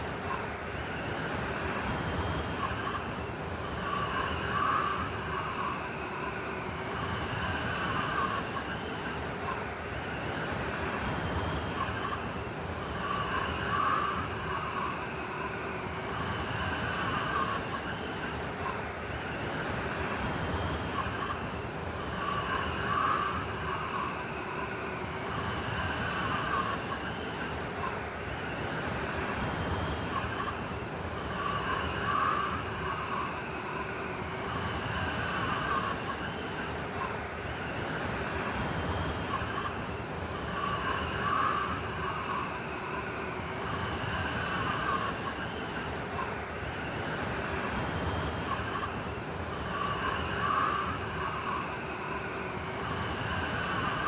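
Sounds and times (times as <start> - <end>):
blizzard wind howling: 0.0 - 54.0.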